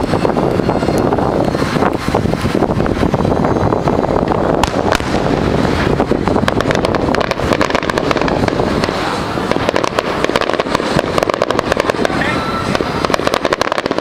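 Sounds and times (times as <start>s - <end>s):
low rumble: 0.0s - 13.5s
fireworks cracking and popping: 0.0s - 14.0s.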